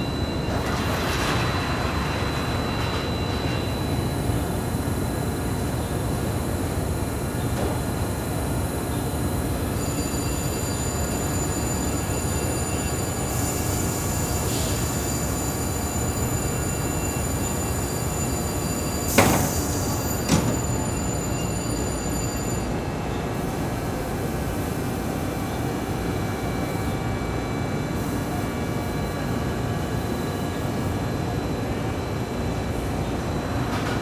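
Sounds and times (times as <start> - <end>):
faint high whines: 0.0 - 33.9
laundry machinery drone: 0.0 - 34.0.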